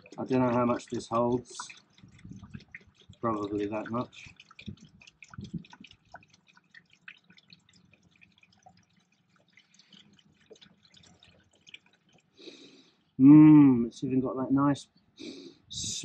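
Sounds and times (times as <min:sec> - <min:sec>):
fluid dripping and trickling: 0:00.0 - 0:13.2.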